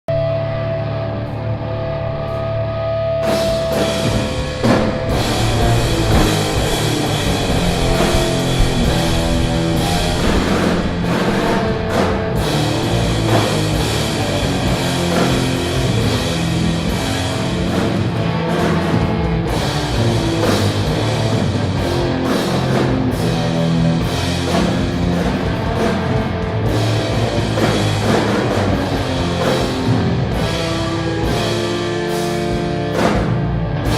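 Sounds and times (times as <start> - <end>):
metal band playing: 0.1 - 33.9.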